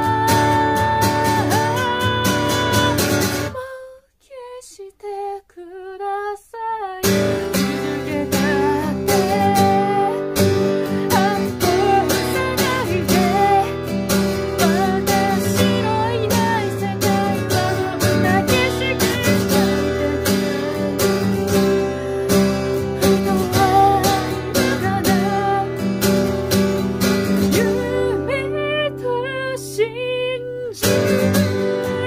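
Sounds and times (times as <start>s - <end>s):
acoustic guitar strumming: 0.0s - 3.6s, 7.0s - 32.0s
woman singing: 0.0s - 32.0s.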